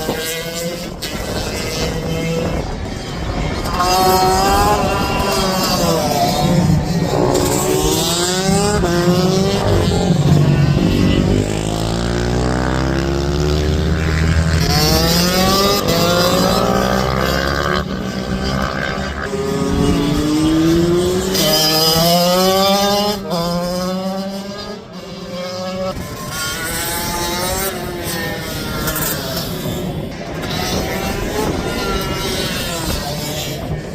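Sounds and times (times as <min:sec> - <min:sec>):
minibike engines revving: 0:00.0 - 0:33.9.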